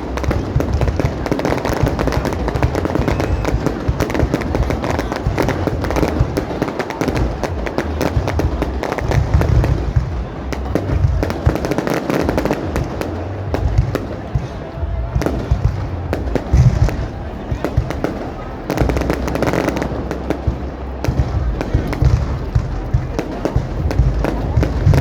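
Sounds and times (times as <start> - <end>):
fireworks crackling: 0.0 - 25.0
fireworks shells rumbling: 0.0 - 25.0.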